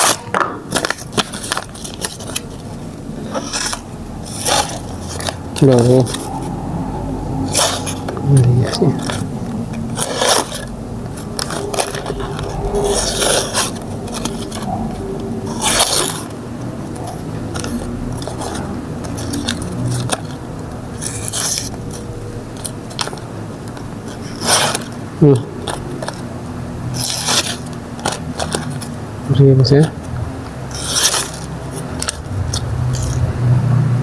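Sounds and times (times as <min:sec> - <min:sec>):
plastic and paper crinkling: 0:00.0 - 0:06.6, 0:07.4 - 0:33.2.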